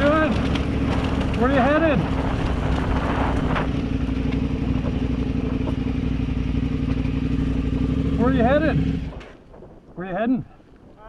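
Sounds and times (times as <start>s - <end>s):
motorcycle engine idling: 0.0s - 9.4s.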